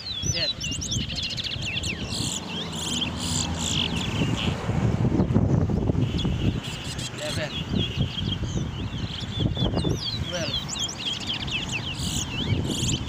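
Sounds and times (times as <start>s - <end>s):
finches singing: 0.0s - 13.0s
wind rumble on microphone: 0.0s - 13.0s.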